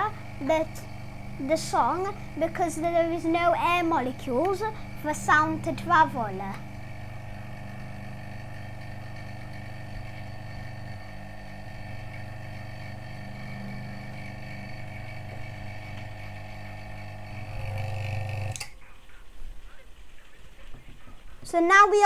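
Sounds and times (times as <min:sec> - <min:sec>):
vacuum pump humming: 0:00.0 - 0:18.8.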